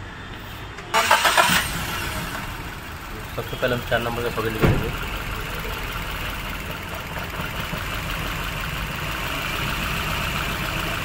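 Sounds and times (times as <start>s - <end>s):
car engine idling and misfiring: 0.9s - 11.0s.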